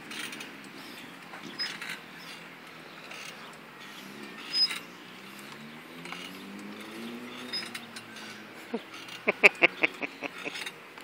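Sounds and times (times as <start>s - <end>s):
swing squeak: 0.0s - 10.8s
swing chains clinking: 0.0s - 11.0s.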